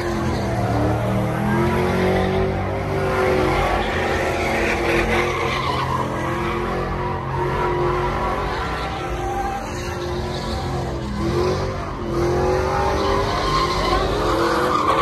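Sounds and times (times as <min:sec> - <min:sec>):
truck engines revving high: 0:00.0 - 0:15.0.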